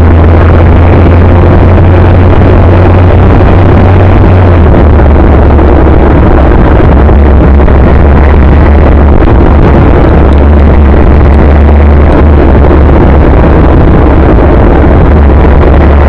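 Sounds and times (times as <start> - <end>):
bike road rumble: 0.0 - 16.0
loud wind on microphone: 0.0 - 16.0.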